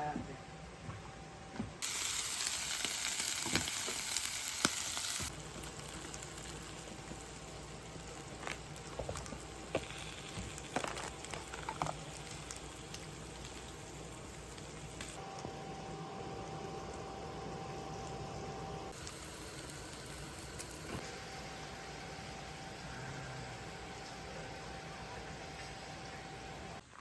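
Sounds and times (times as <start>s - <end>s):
food sizzling in a hot pan: 1.8s - 26.8s.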